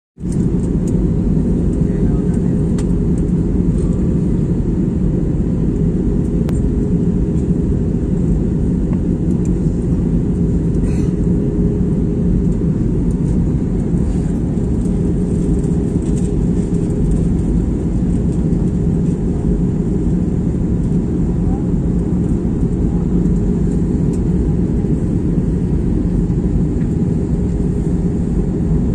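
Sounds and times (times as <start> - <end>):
airliner cabin engine rush: 0.2 - 28.9
low steady hum: 0.2 - 28.9.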